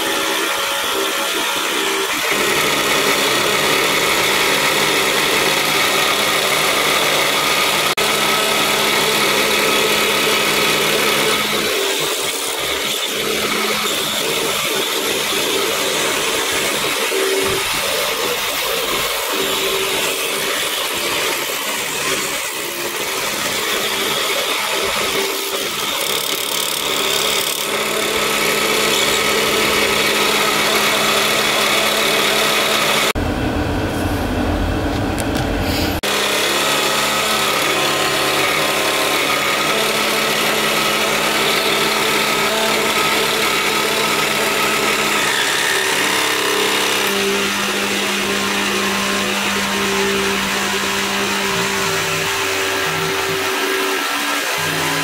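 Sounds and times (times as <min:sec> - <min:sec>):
small jig saw cutting thin wood: 0:00.0 - 0:33.2, 0:36.0 - 0:55.0.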